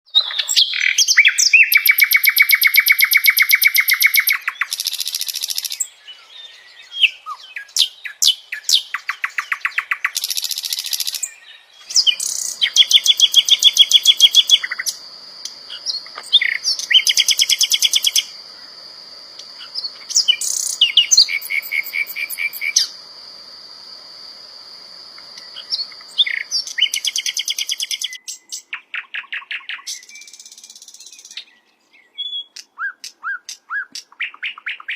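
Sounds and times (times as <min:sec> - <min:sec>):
bird singing trills: 0:00.1 - 0:18.7, 0:19.5 - 0:23.0, 0:25.4 - 0:34.9.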